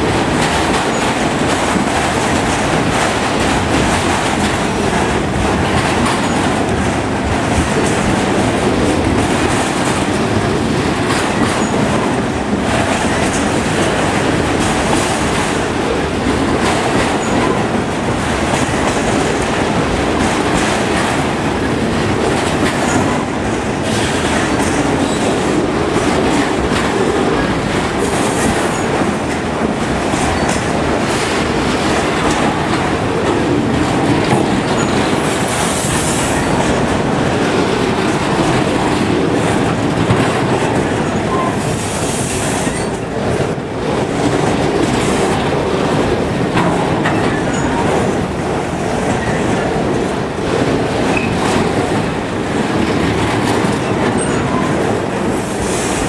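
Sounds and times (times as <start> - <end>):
freight train rolling past: 0.0 - 56.0
steel wheels clattering on rail: 0.0 - 56.0.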